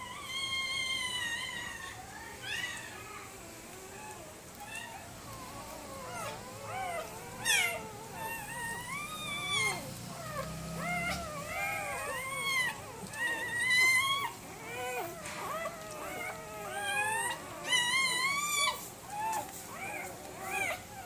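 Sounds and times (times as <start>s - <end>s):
puppies whining and squealing: 0.0s - 21.0s.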